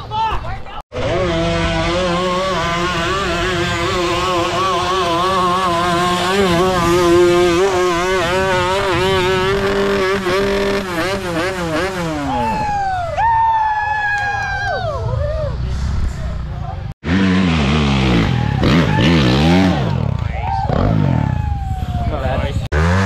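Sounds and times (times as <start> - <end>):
off-road engine revving: 0.9 - 13.0, 15.5 - 23.0.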